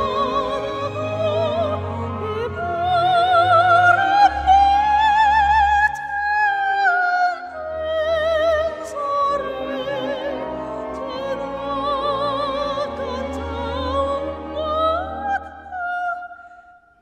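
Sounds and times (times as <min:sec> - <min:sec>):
operatic soprano singing: 0:00.0 - 0:17.0.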